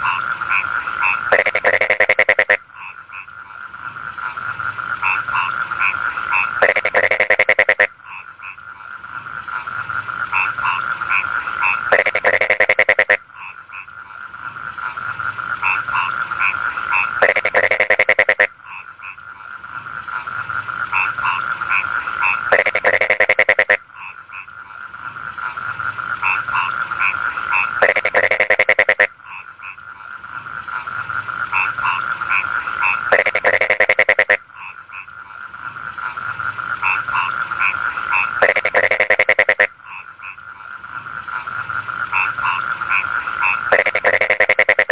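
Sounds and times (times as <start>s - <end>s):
frog chorus: 0.0s - 44.9s
loud pulsing frog croak: 0.0s - 44.9s.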